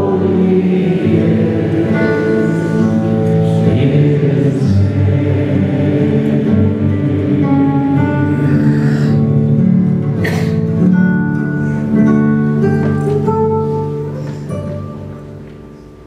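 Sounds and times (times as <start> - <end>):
solo classical guitar: 0.0 - 16.0.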